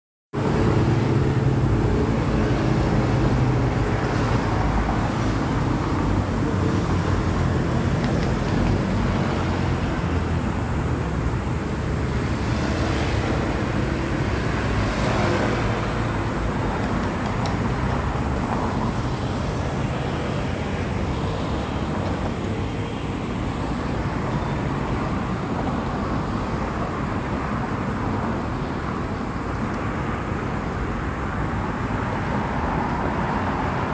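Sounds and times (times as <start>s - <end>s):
road traffic rumble: 0.3s - 33.9s.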